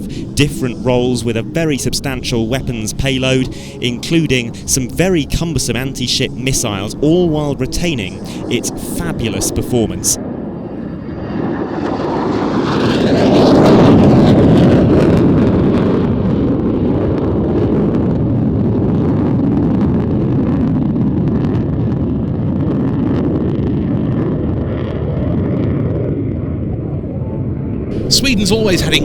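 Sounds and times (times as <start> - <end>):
jet engine rumble: 0.0 - 29.0.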